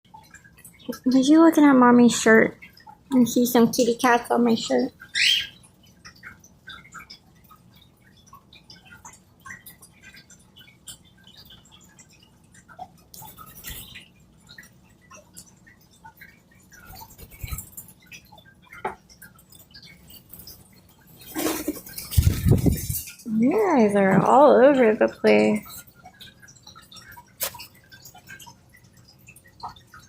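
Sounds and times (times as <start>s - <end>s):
birds chewing with beaks: 2.5s - 30.0s.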